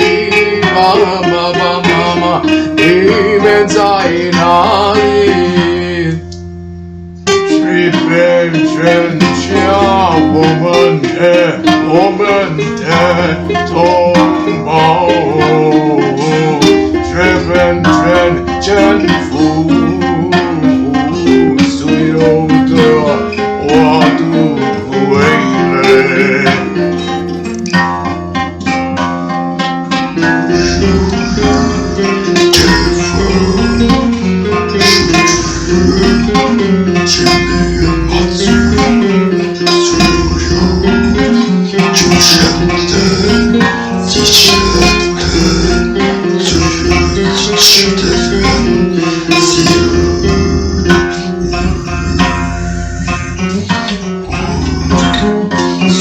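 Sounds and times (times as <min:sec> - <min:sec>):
folk music with plucked guitar: 0:00.0 - 0:56.0.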